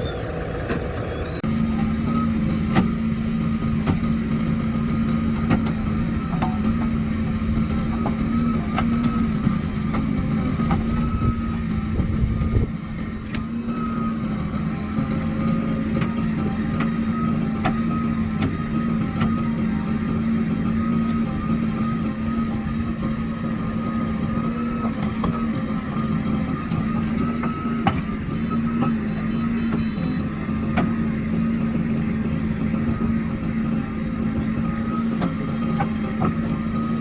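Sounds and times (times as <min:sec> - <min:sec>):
diesel machinery engine running: 0:00.0 - 0:37.0.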